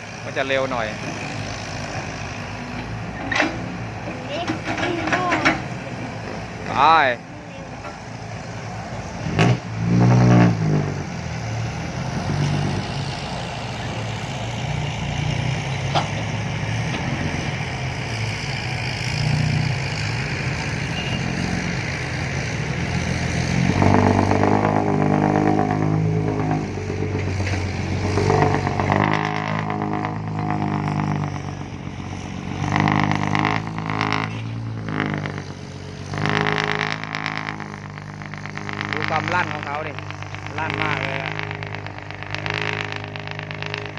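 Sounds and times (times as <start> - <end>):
diesel truck engine pulling hard: 0.0 - 43.9.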